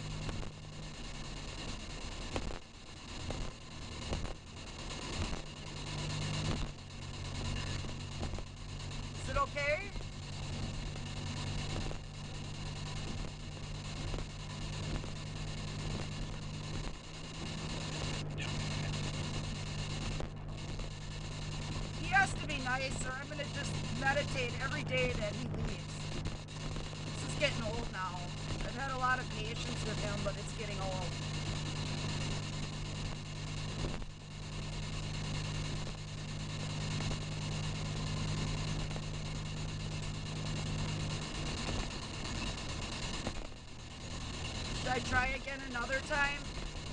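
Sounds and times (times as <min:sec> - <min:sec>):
car road noise hum: 0:00.0 - 0:46.9
radio static hiss: 0:00.0 - 0:46.9
voice fragment in static: 0:03.0 - 0:46.9.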